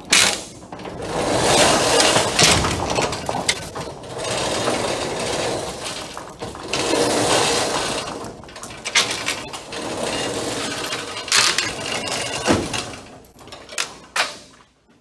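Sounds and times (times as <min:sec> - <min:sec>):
metal roll-up door rattling: 0:00.0 - 0:14.7.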